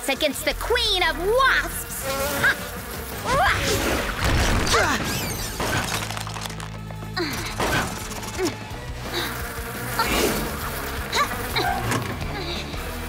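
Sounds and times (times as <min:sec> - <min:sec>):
dramatic music: 0:00.2 - 0:13.0.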